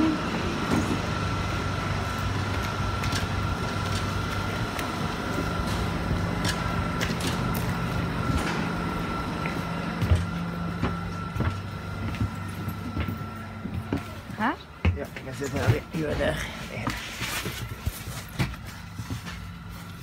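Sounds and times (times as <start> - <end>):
electric train humming: 0.0 - 20.0
footsteps of passengers: 0.0 - 20.0.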